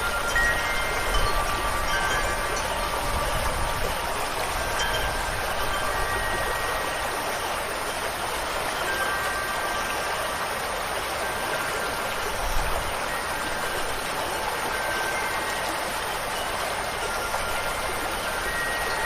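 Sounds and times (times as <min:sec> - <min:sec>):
falling water rushing: 0:00.0 - 0:19.0
wind chimes ringing: 0:00.0 - 0:19.0.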